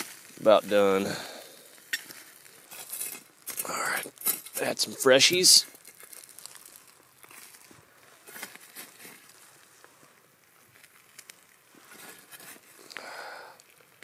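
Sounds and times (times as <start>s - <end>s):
crackling and sizzling coals: 0.0s - 14.0s
foil rustling: 0.0s - 14.0s.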